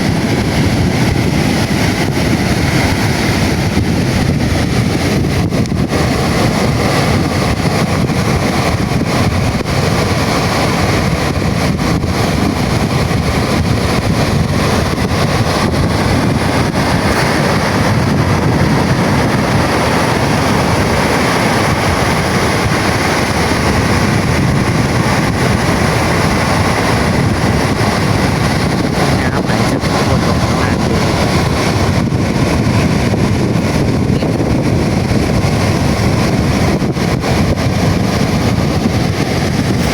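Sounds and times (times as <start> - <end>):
sea waves breaking: 0.0 - 39.9
wind buffeting microphone: 0.0 - 39.9.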